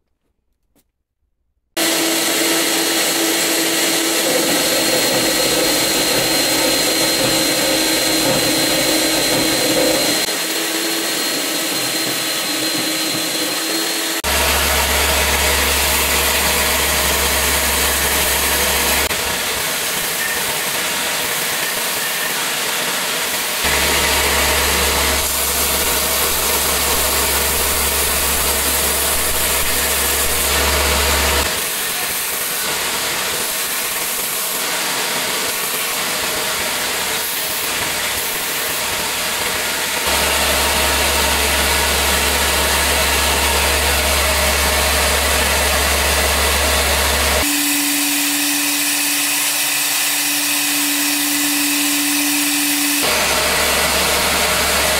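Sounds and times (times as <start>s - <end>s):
belt grinder sanding wood: 1.8s - 54.9s.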